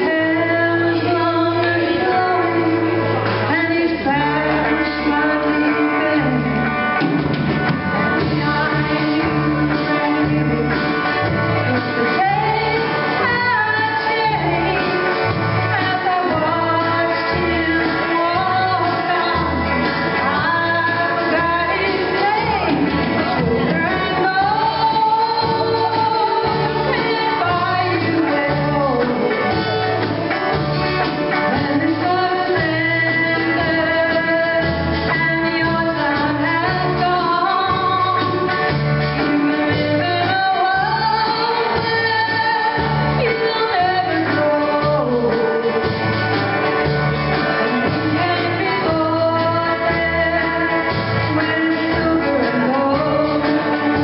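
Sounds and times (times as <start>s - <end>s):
live band playing: 0.0s - 54.0s
woman singing: 0.0s - 54.0s.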